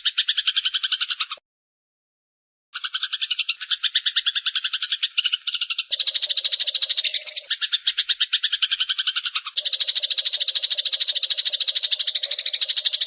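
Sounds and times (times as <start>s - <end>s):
sparrows chattering: 0.0s - 1.4s, 2.8s - 13.0s.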